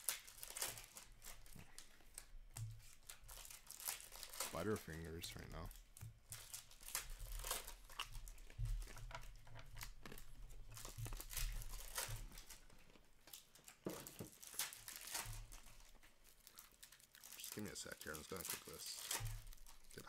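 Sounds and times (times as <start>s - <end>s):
cards rustling: 0.0s - 20.0s
foil wrappers crinkling and tearing: 0.0s - 20.0s.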